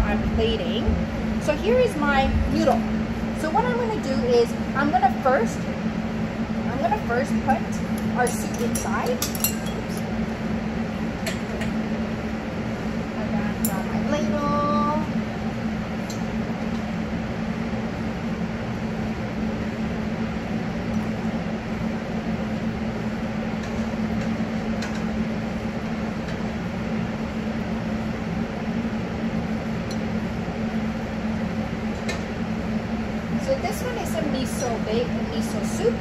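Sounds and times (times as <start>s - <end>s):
kitchen machinery hum: 0.0s - 36.0s.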